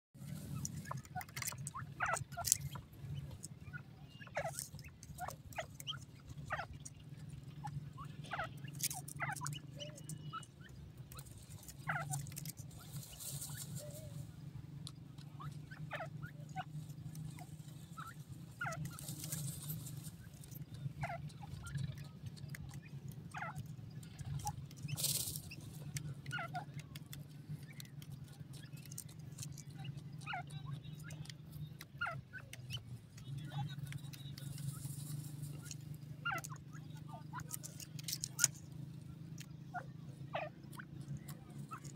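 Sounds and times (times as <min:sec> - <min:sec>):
birds clucking and chirping: 0:00.2 - 0:41.9
birds scratching dry soil: 0:00.2 - 0:41.9.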